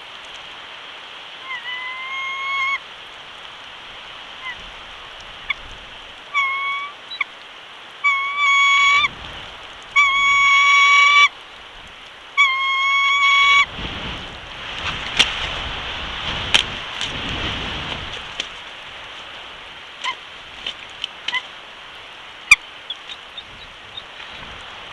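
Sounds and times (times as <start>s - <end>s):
wind rumbling on microphone: 2.0s - 6.4s, 8.7s - 12.2s, 12.8s - 24.9s.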